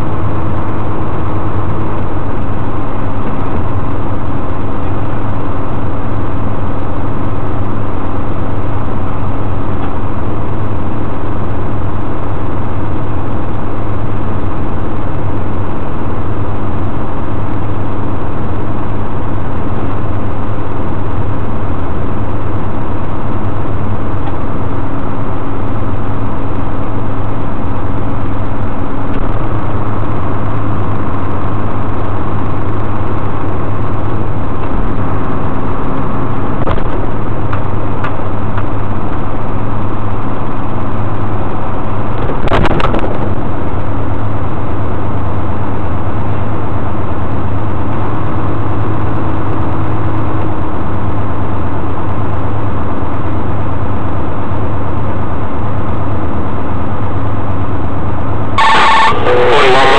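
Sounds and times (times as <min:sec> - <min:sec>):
high steady whine: 0:00.0 - 0:59.9
truck engine running: 0:00.0 - 0:59.9.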